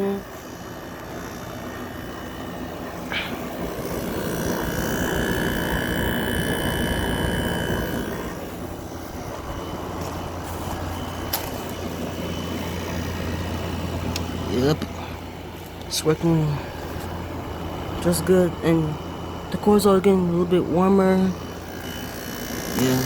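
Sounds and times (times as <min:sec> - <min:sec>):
air conditioner fan whine: 0:00.0 - 0:23.0
compressor low hum: 0:00.0 - 0:23.0.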